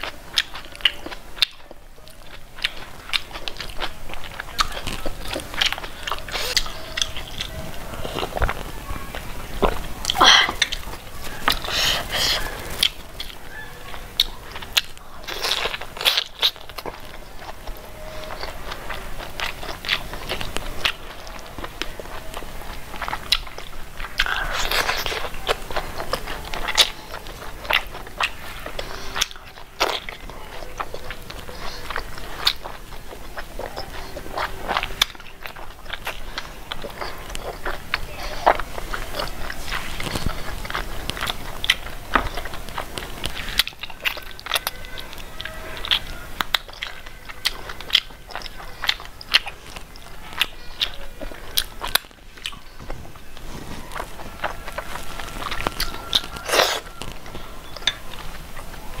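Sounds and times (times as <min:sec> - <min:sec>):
chewing and crunching: 0:00.0 - 0:59.0
mouth smacking: 0:00.0 - 0:59.0.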